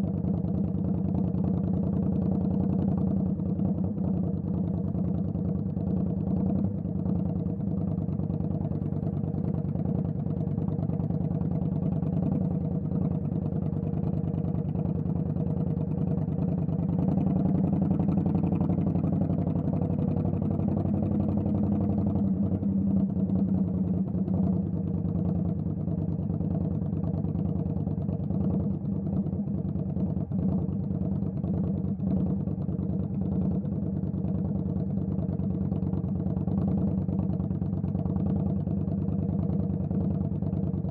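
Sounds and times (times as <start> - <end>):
motorcycle engine running at low revs: 0.0 - 40.9.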